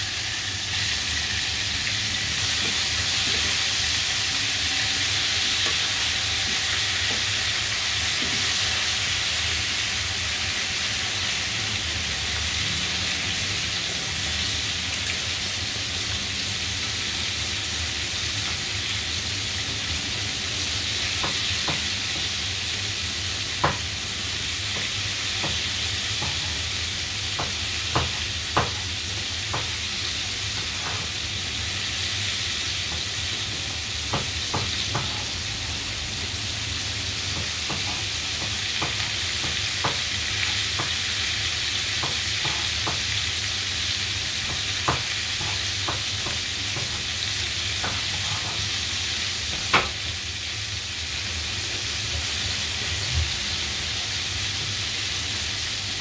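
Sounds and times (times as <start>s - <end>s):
chicken frying in hot oil: 0.0s - 56.0s.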